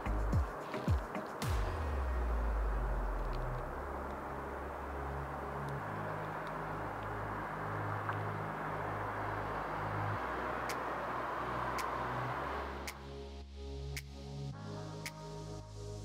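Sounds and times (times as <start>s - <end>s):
distant city traffic: 0.0s - 16.0s
music with low bass line: 0.0s - 16.0s.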